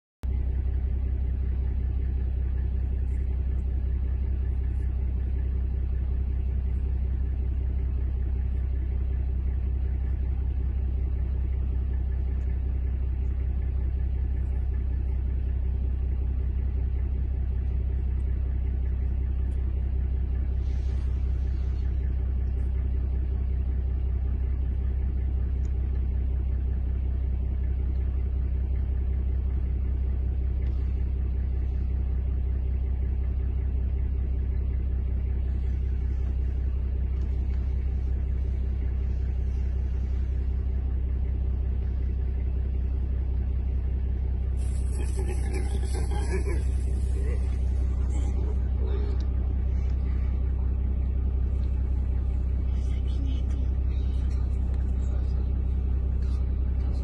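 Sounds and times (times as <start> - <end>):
vehicle engine idling: 0.2 - 57.0.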